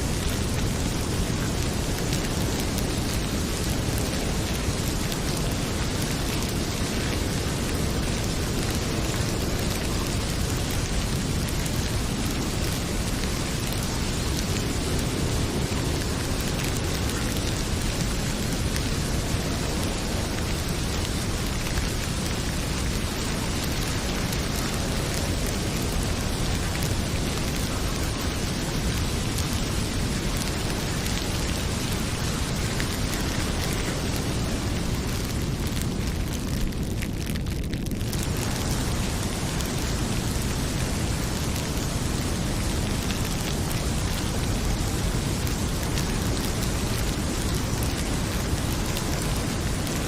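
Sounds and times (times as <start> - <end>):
heavy rain pouring: 0.0 - 50.0
wood fire crackling: 0.0 - 50.0.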